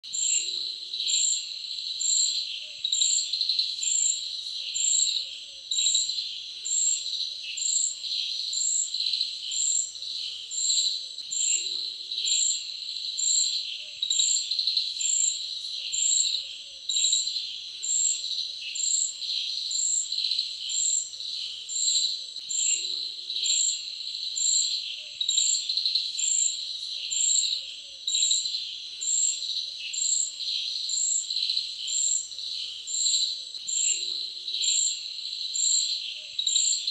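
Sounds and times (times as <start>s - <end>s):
crickets chirping chorus: 0.0s - 36.9s.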